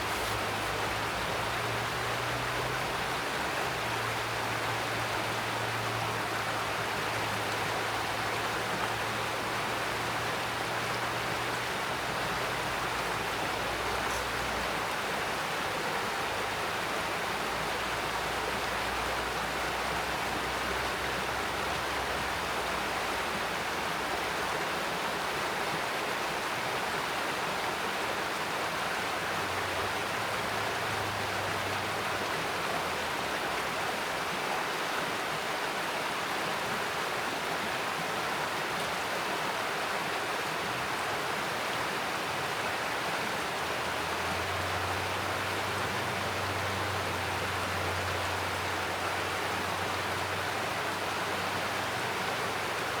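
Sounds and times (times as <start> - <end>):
mountain stream flowing: 0.0 - 53.0.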